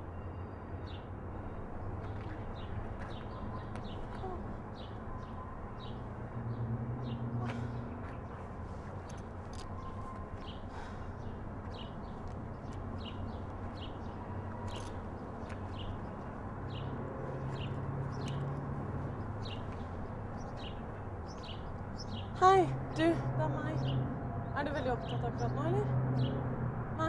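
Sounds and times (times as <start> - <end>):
small birds chirping: 2.0 - 26.5.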